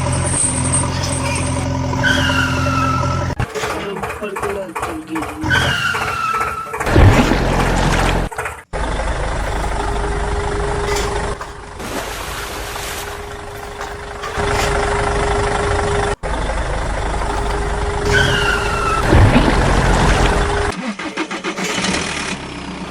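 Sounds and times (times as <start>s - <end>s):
heavy truck engine humming: 0.0s - 22.9s.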